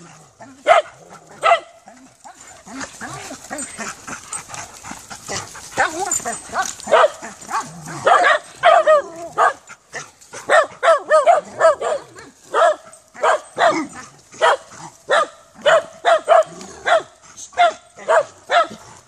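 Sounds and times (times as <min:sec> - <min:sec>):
dog barking: 0:00.6 - 0:02.5, 0:05.4 - 0:18.8.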